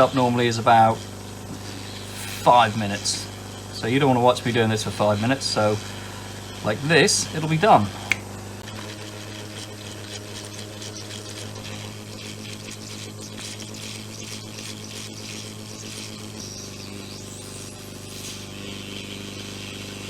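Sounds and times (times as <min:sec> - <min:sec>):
hot air blower fan hum: 0:00.0 - 0:20.0.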